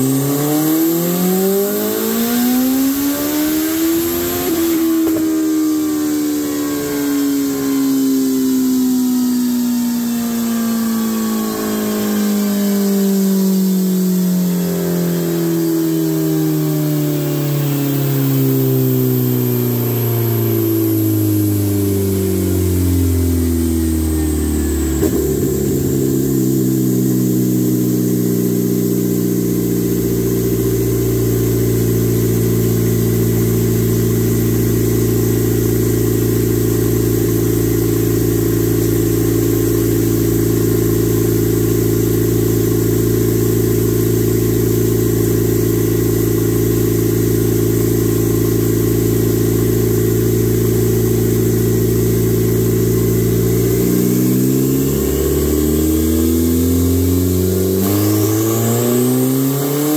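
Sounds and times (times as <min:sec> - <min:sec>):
motorcycle engine winding down: 0:00.0 - 0:59.9.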